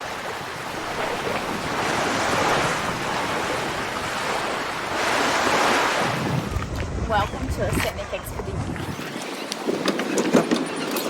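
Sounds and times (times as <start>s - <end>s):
ocean water washing and surging: 0.0s - 11.0s.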